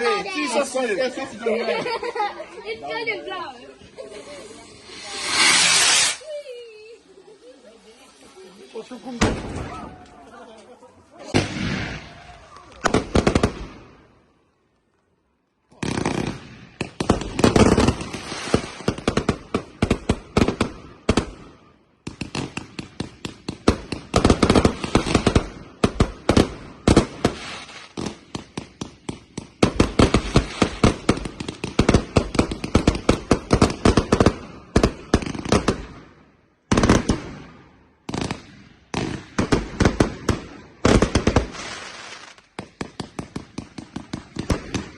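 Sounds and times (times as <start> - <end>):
fireworks bangs: 3.8 - 7.0, 7.8 - 10.4, 11.2 - 14.1, 15.7 - 44.9.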